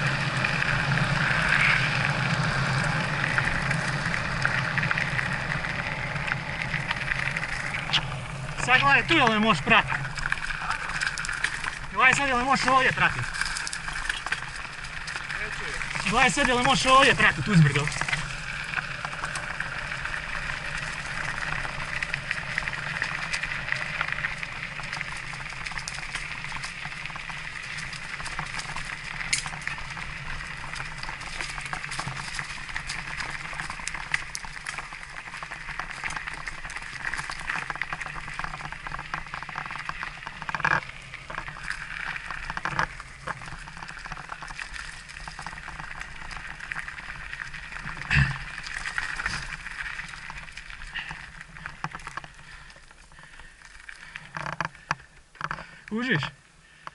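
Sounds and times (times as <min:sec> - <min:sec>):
bike tyres rolling over stony ground: 0:00.0 - 0:56.9.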